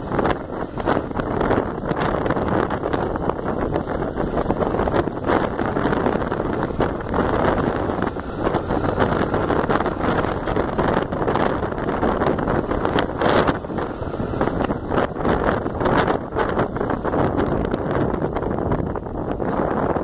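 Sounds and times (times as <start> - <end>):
motorcycle engine: 0.0 - 20.0
wind buffeting on microphone: 0.0 - 20.0.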